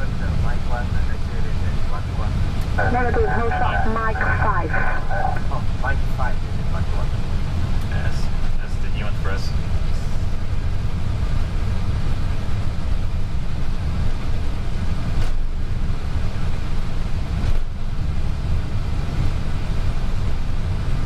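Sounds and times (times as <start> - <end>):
aircraft engines idling: 0.0 - 21.0.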